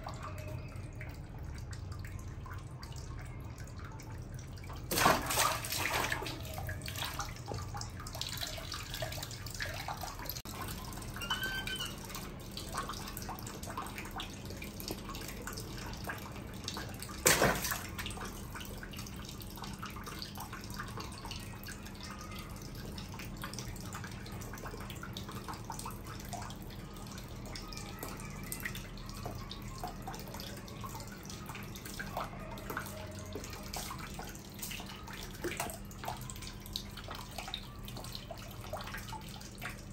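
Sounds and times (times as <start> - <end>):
water splashing in a bath: 0.0 - 39.9.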